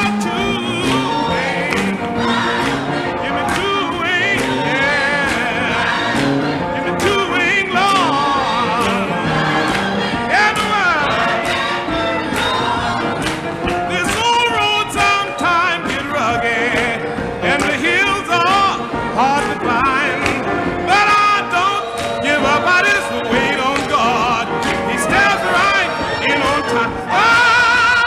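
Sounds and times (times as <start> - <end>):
tenor voice singing with vibrato: 0.0 - 13.2, 13.8 - 28.0
choir singing: 0.0 - 28.0
piano: 0.0 - 28.0.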